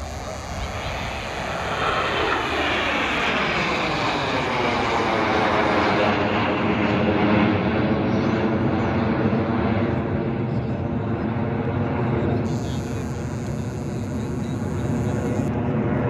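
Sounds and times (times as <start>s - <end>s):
aircraft engine roar passing: 0.0s - 16.0s.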